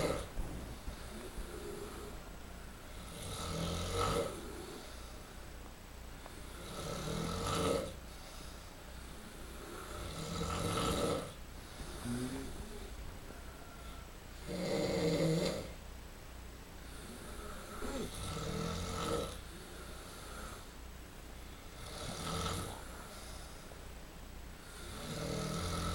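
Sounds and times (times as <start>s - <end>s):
men snoring loudly: 0.0s - 5.4s, 6.2s - 15.8s, 16.9s - 20.7s, 21.6s - 23.6s, 24.6s - 25.9s.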